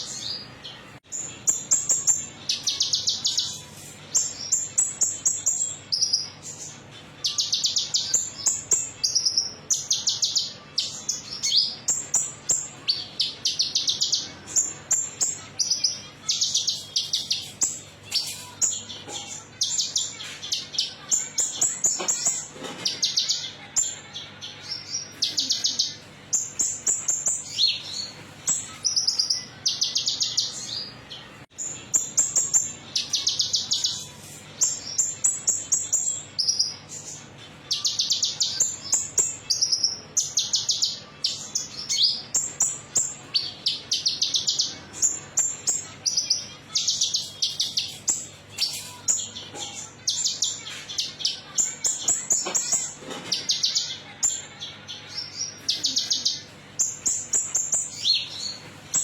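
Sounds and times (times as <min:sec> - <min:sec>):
bird singing buzzy trills: 0:00.0 - 0:59.0.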